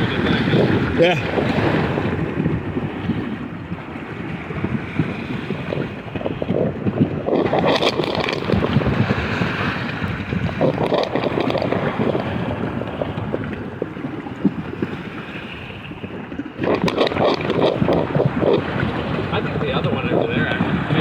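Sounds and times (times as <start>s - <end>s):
water rushing and splashing: 0.0s - 21.0s
wind buffeting microphone: 0.0s - 21.0s.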